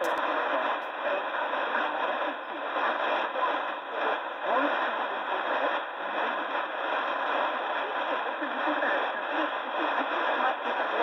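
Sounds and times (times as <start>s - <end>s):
faint radio speech: 0.0s - 11.0s
radio static hiss: 0.0s - 11.0s.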